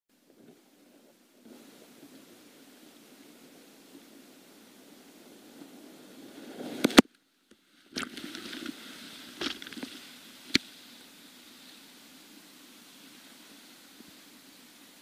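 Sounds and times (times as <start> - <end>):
rushing whitewater: 0.6 - 15.0.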